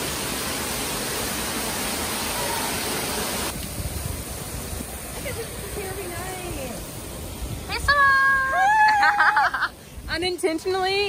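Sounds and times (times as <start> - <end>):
waterfall splashing into pool: 0.0 - 9.7.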